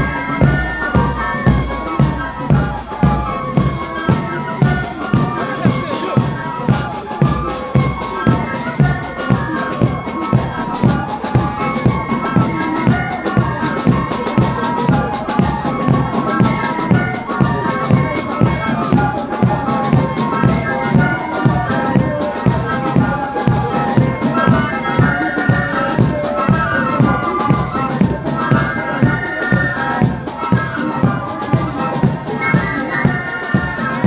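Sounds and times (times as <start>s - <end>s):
marching band music: 0.0s - 34.0s.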